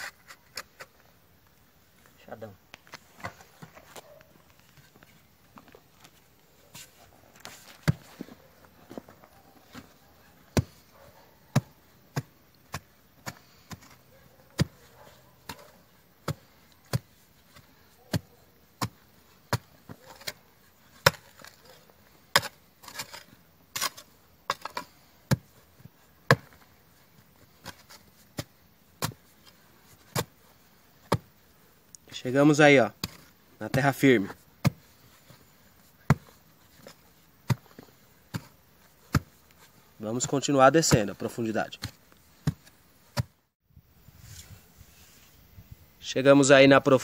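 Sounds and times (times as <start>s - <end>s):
hoe striking clay soil: 4.8s - 43.4s.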